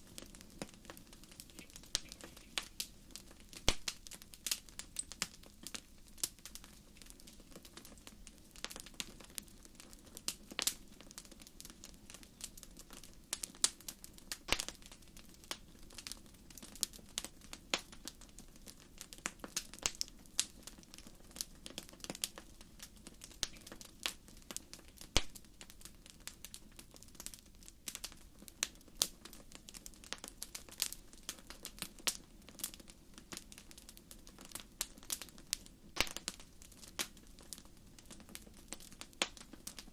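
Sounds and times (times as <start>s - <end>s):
fire popping and snapping: 0.0s - 39.9s
wood fire crackling: 0.0s - 39.9s.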